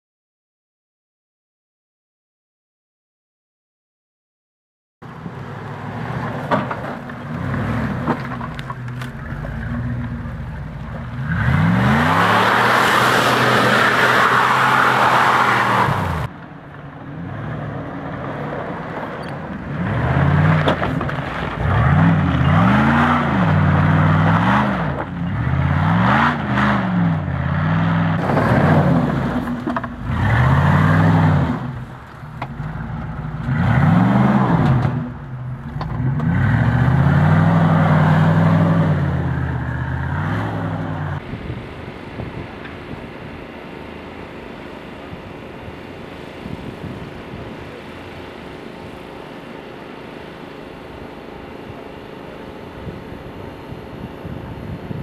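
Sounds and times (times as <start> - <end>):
car engine revving: 5.3 - 16.3, 17.0 - 55.0.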